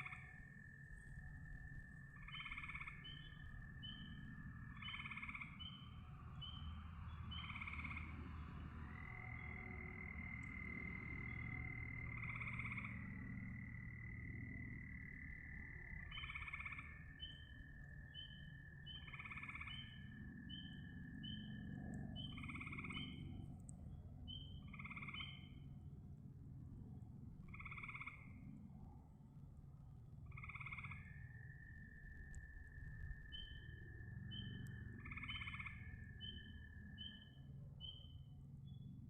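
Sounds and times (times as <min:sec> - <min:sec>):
frog calling: 0:00.0 - 0:08.2, 0:08.8 - 0:23.4, 0:24.3 - 0:25.6, 0:27.4 - 0:28.6, 0:30.2 - 0:38.1
high frog chirps: 0:00.0 - 0:08.2, 0:08.8 - 0:23.4, 0:24.3 - 0:25.6, 0:27.5 - 0:28.6, 0:30.2 - 0:38.2.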